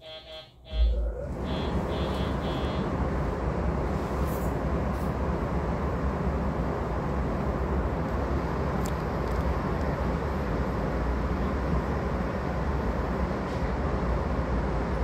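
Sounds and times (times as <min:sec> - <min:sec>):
train car rumble from inside: 0:00.0 - 0:15.0.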